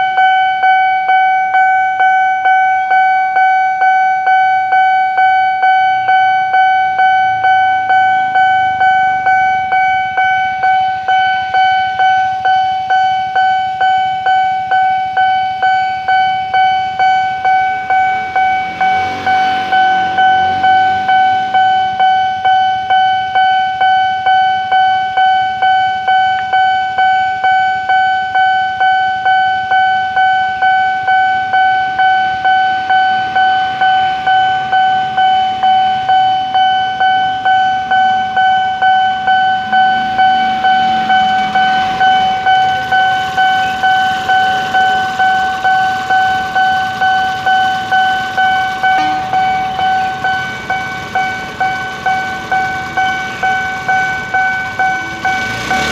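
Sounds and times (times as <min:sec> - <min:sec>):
level crossing warning bell: 0:00.0 - 0:55.9.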